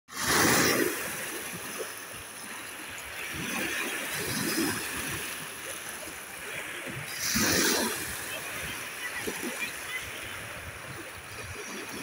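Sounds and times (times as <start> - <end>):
waves washing over pebbles: 0.1 - 12.0.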